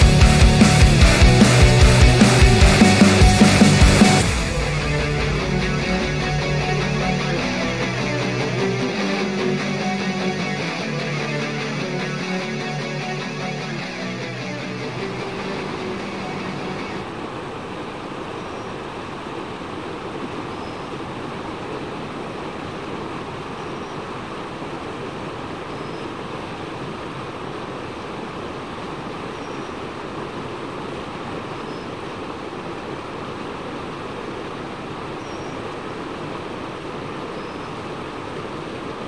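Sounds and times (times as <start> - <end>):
stream water flowing: 3.4 - 39.0.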